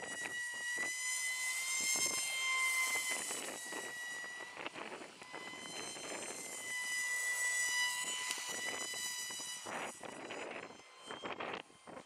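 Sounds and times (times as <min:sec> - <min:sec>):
electric motor and propeller whining: 0:00.0 - 0:12.0.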